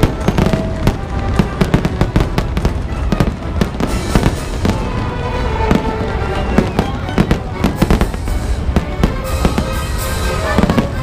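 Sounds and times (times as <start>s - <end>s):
fireworks bangs: 0.0s - 11.0s
music playing: 0.0s - 11.0s.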